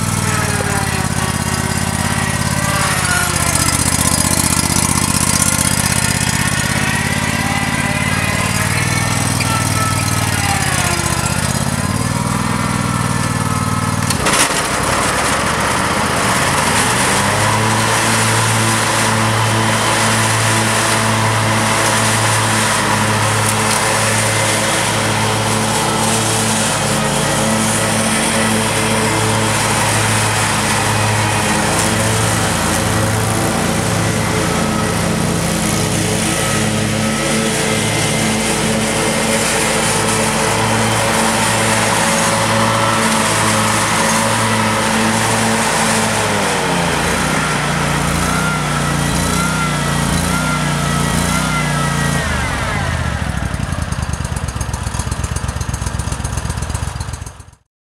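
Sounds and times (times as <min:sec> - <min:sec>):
mower engine running: 0:00.0 - 0:57.6.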